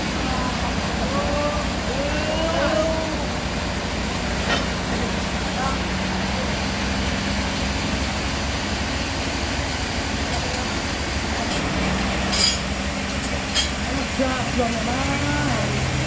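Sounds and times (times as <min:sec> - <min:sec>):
machine engine humming: 0:00.0 - 0:16.0.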